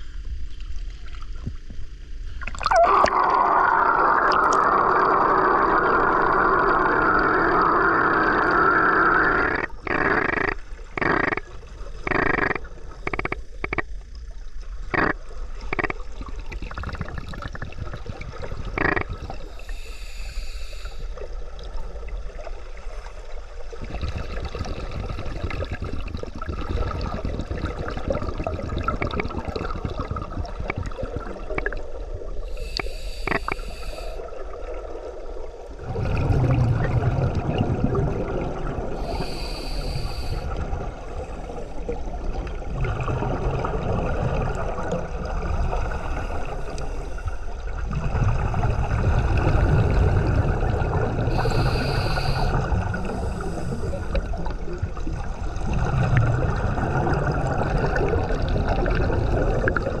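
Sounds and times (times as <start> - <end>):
underwater diver exhaust bubbles: 2.4 - 13.9, 14.9 - 21.0, 23.7 - 34.8, 35.8 - 60.0.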